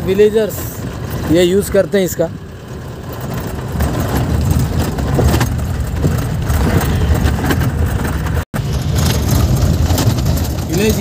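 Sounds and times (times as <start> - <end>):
engine and road rumble: 0.0 - 11.0
vehicle body rattling: 0.0 - 11.0.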